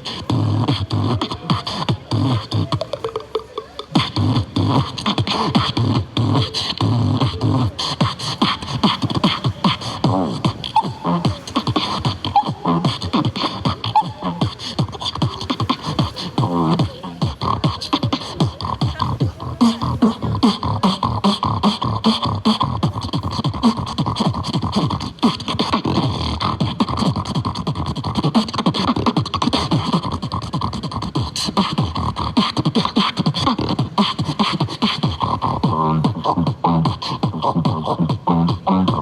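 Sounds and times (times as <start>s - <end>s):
person beatboxing: 0.0s - 39.0s.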